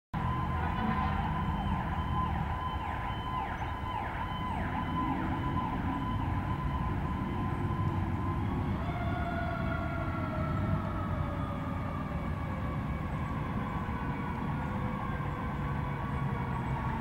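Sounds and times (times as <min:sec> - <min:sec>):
fire engine siren: 0:00.1 - 0:17.0.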